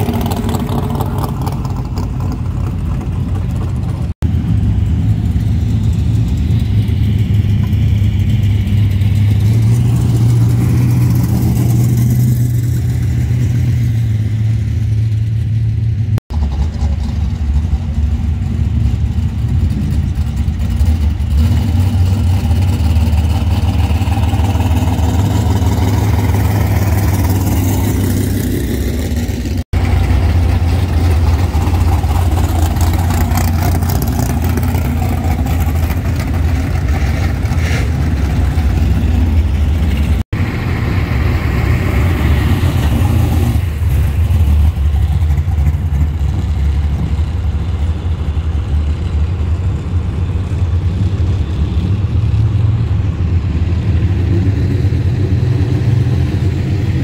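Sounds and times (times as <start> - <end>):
race car engines idling: 0.0 - 57.0.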